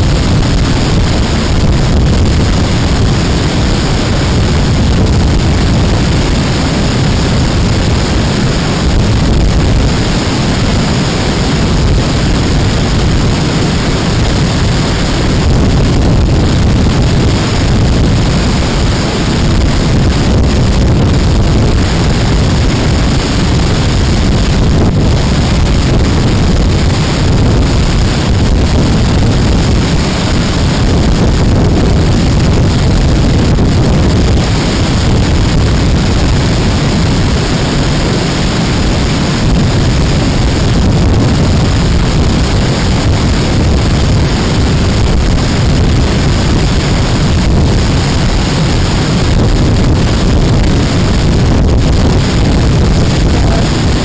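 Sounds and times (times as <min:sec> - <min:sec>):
waterfall rushing: 0:00.0 - 0:54.0
wind noise on microphone: 0:00.0 - 0:54.0.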